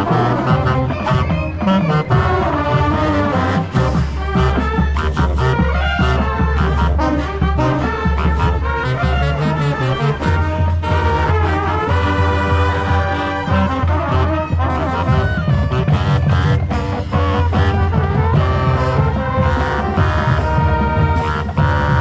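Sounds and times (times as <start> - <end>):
marching band playing: 0.0 - 22.0.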